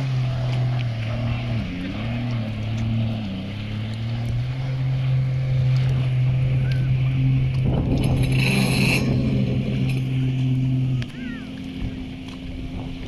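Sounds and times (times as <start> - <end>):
jet ski engine droning: 0.0 - 13.0.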